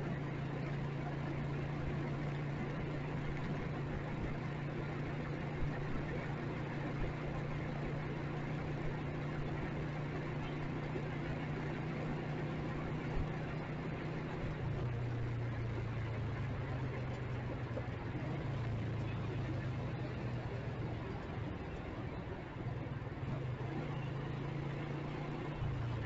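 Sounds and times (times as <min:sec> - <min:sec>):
motorcycle engine running: 0:00.0 - 0:26.0
road and traffic noise: 0:00.0 - 0:26.0.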